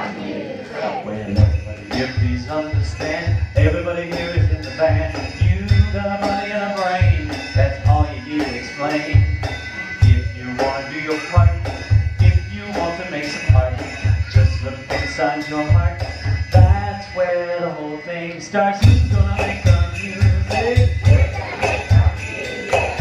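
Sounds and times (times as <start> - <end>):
person singing: 0.0 - 23.0
rattling percussion: 1.1 - 17.7, 18.5 - 23.0
low drum beat: 1.3 - 17.1, 18.8 - 23.0.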